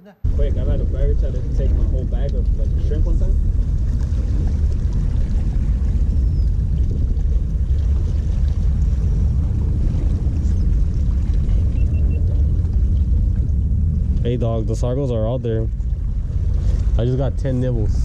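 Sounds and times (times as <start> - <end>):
wind buffeting microphone: 0.2 - 18.0
waves washing against rocks: 0.3 - 17.9.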